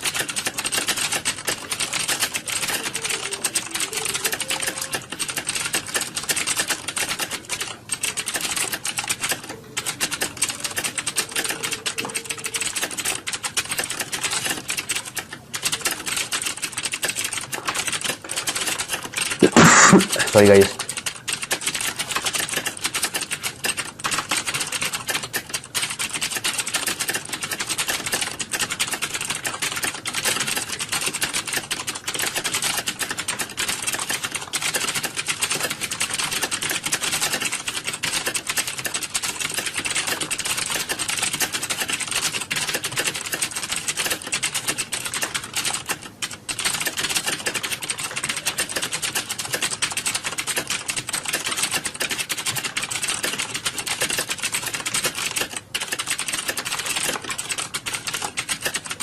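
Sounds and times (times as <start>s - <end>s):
fast typing on keyboard: 0.0s - 59.0s.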